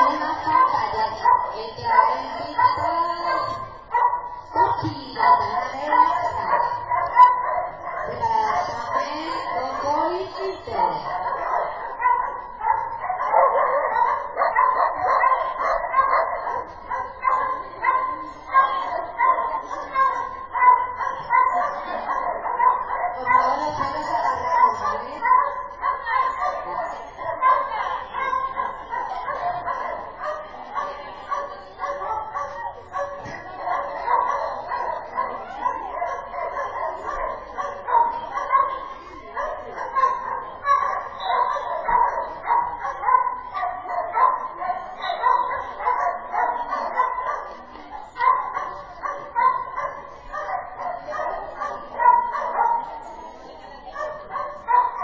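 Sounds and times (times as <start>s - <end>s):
dog barking: 0.0s - 55.0s
faint voices: 0.0s - 55.0s.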